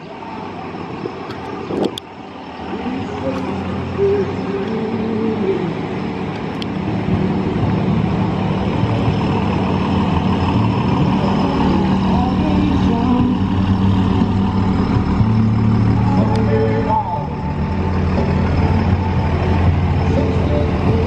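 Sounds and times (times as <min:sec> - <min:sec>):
pickup truck engine passing: 0:00.3 - 0:21.0.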